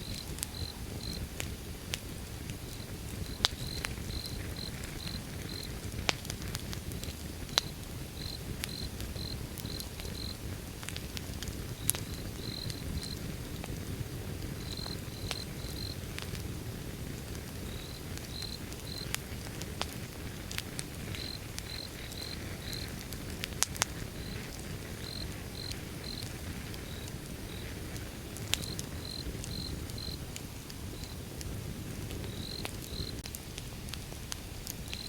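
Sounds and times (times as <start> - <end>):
fire crackles and pops: 0.0 - 35.0
wood fire rumbling: 0.0 - 35.0.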